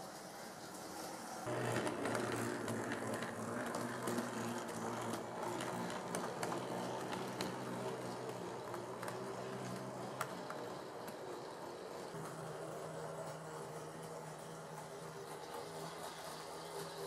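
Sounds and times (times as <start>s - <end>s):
model train motor hum: 0.0s - 17.0s
wheels clicking over track joints: 1.5s - 17.0s.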